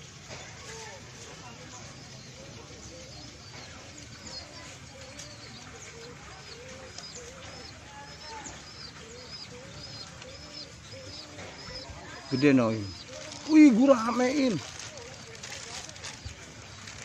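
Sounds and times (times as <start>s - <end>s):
bird cooing: 1.8s - 16.2s.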